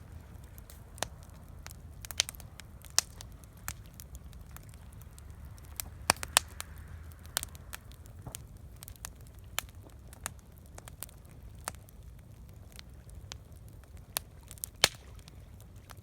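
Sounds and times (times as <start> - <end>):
campfire crackling: 0.0 - 16.0
fire popping: 0.0 - 16.0
low fire rumble: 0.0 - 16.0.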